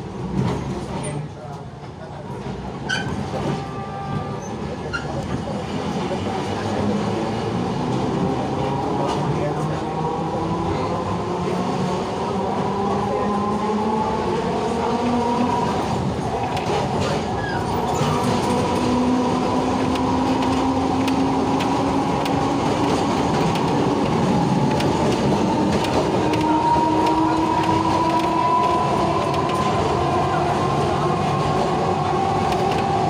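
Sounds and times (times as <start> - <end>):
tram wheels rumbling on rails: 0.0 - 33.0.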